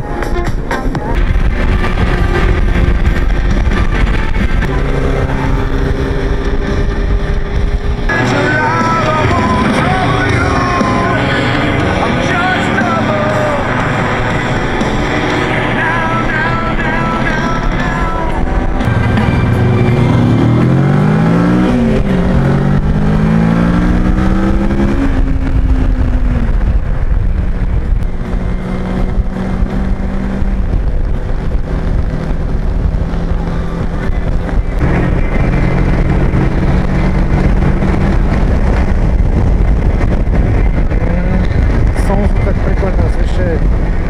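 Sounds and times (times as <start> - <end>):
motorcycle engine accelerating: 0.0 - 44.0
wind rumble on microphone: 0.0 - 44.0.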